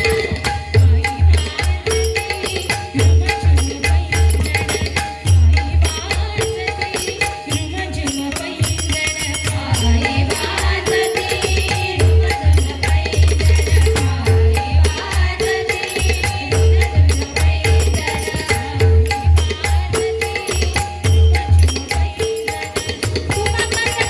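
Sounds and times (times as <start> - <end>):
drum strokes in steady rhythm: 0.0 - 24.0
jingling hand percussion: 0.0 - 24.0.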